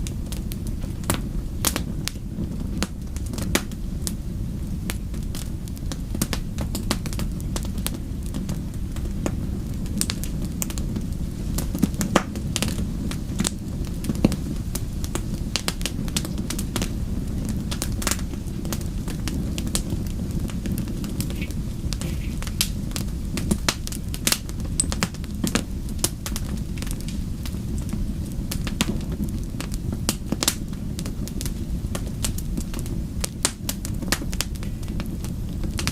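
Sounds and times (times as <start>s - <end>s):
fire crackling and popping: 0.0s - 35.9s
low noise of flames: 0.0s - 35.9s.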